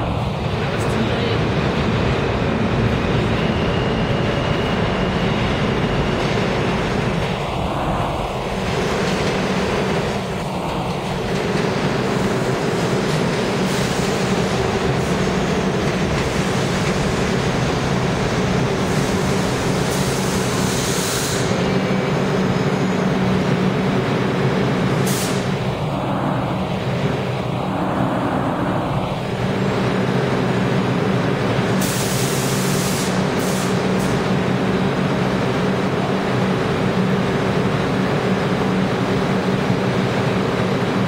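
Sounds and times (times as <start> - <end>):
subway train rumbling: 0.0 - 41.0
train whine: 0.0 - 41.0.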